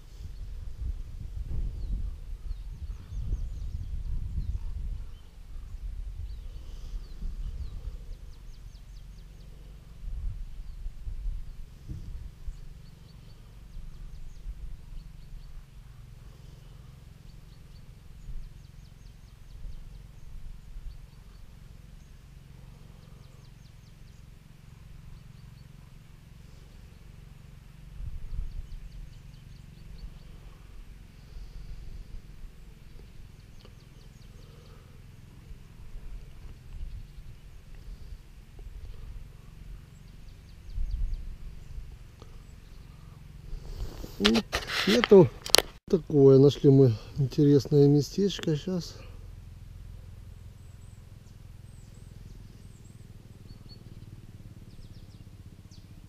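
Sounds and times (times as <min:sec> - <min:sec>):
small birds chirping: 0:00.0 - 0:56.0
steady low rumble: 0:00.0 - 0:56.0.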